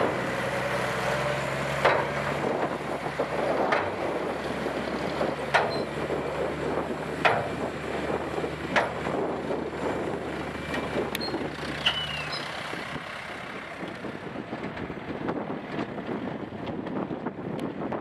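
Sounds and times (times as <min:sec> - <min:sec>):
diesel truck engine humming: 0:00.0 - 0:17.9
construction site noise: 0:00.0 - 0:18.0.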